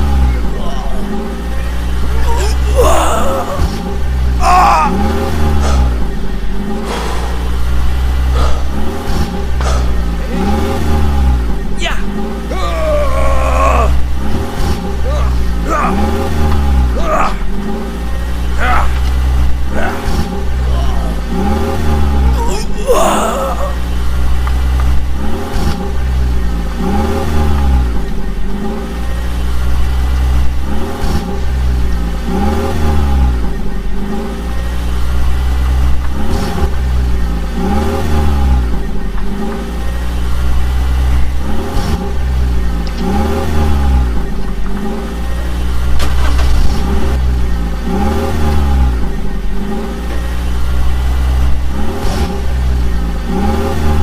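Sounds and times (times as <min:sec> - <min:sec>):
vehicle engine revving: 0:00.0 - 0:54.0.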